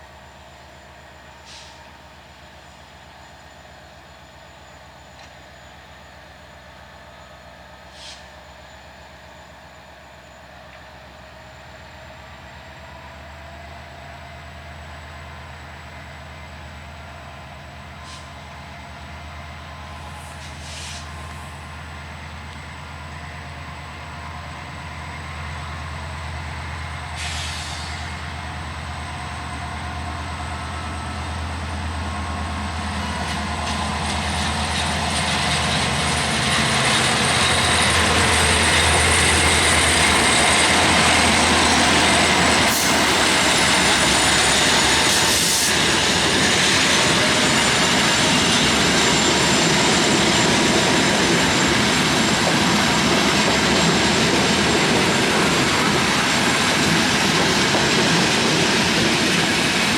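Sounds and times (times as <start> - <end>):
passing train noise: 0.0 - 59.9
locomotive engine hum: 0.1 - 59.9.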